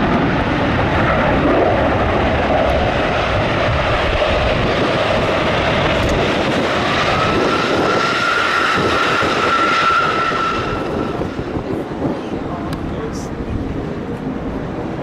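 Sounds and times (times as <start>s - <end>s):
high jet whine: 0.0s - 15.0s
jet engine roar: 0.0s - 15.0s.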